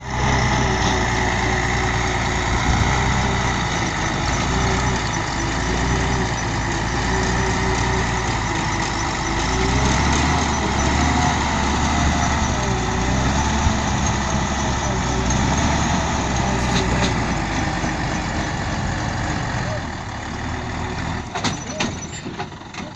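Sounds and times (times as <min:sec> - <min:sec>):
truck diesel engine running: 0:00.0 - 0:22.9.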